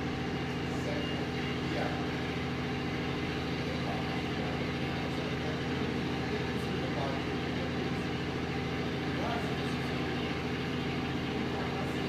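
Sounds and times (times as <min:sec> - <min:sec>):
outdoor noise: 0:00.0 - 0:12.0
steady low engine hum: 0:00.0 - 0:12.0.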